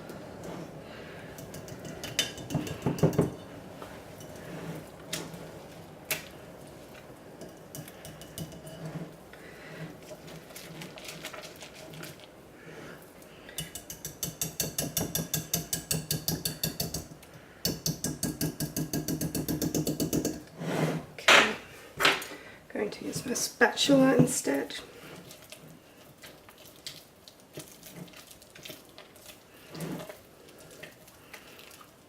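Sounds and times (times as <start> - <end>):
utensil beating soap paste in bowl: 0.0 - 21.2, 23.1 - 32.0.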